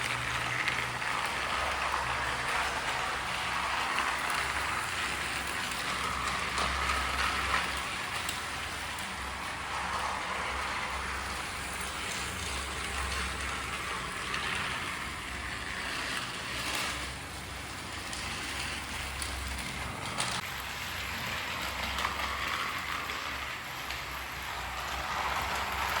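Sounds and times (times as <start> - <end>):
toy train whirring rattle: 0.0 - 26.0.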